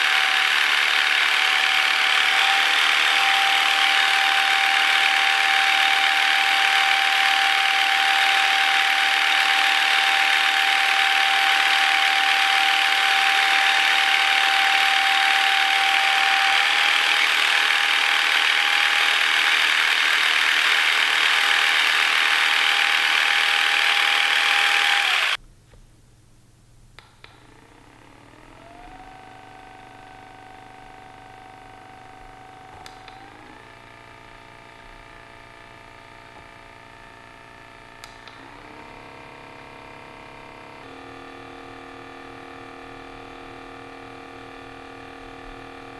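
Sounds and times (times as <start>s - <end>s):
massage gun buzzing: 0.0s - 25.4s, 27.0s - 45.9s.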